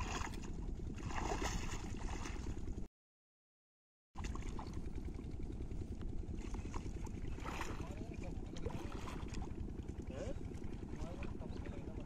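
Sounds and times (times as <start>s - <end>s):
shallow water sloshing: 0.0s - 2.9s, 4.2s - 12.0s
steady low rumble: 0.0s - 2.9s, 4.2s - 12.0s.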